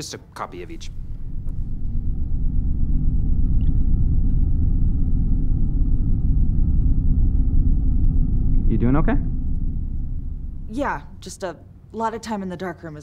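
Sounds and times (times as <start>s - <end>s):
faint higher hum: 0.4s - 13.0s
deep rumbling drone: 0.5s - 11.7s.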